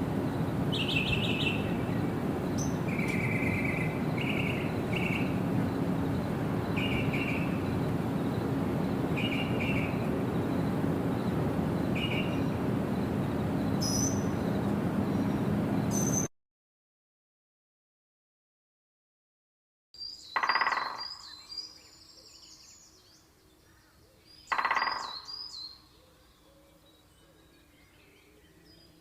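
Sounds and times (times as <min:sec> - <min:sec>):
birds chirping: 0:00.0 - 0:16.3, 0:20.0 - 0:29.0.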